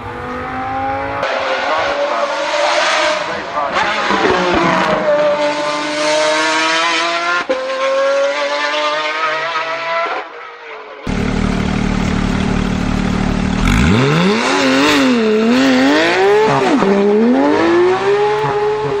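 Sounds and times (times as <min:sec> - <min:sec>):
engine idling and revving: 0:00.0 - 0:09.4, 0:11.1 - 0:19.0.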